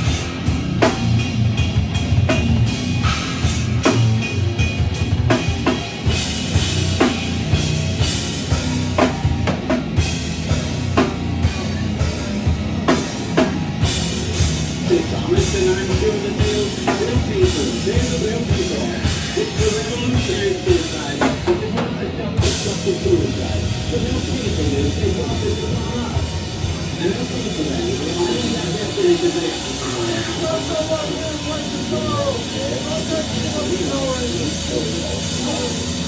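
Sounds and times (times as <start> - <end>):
bass guitar: 0.0 - 36.0
distorted electric guitars: 0.0 - 36.0
fast dense drumming: 0.0 - 36.0.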